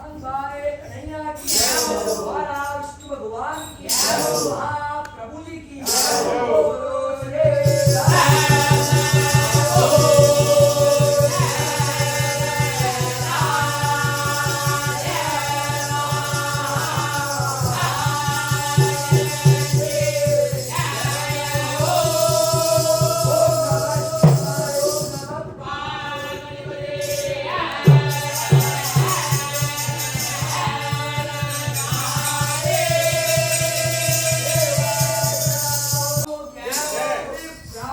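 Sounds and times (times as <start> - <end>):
person singing: 1.2 - 37.9
tambourine jingling: 1.4 - 4.8, 5.8 - 37.9.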